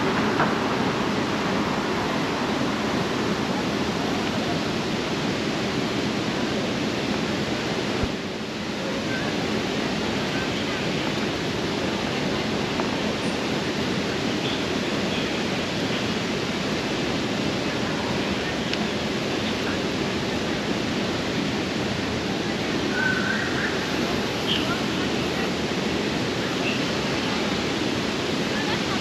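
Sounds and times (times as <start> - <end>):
fountain water splashing: 0.0 - 29.0.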